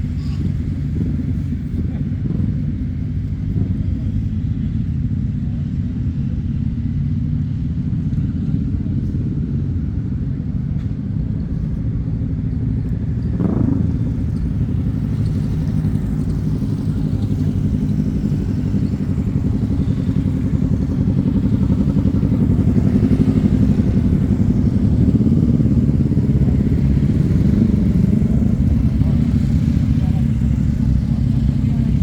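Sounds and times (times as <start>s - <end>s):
motorcycle engines rumbling: 0.0s - 32.0s.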